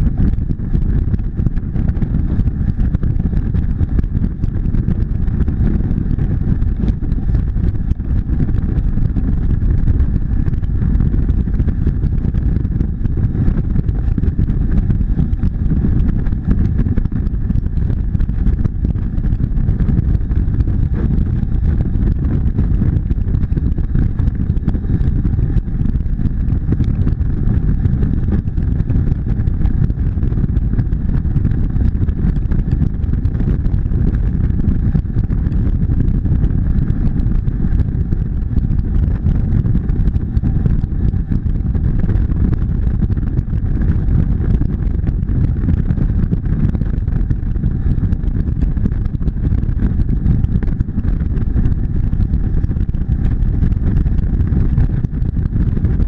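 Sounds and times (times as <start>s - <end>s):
motorcycle engine running: 0.0s - 56.0s
wind buffeting and road noise: 0.0s - 56.0s.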